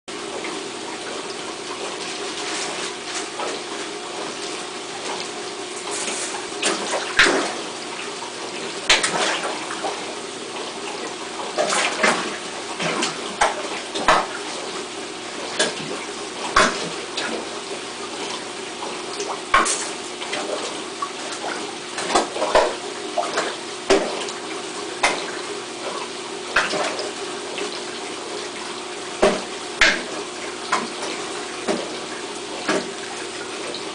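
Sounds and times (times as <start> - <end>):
running water: 0.1 - 33.9
fish splashing at water surface: 0.4 - 33.9.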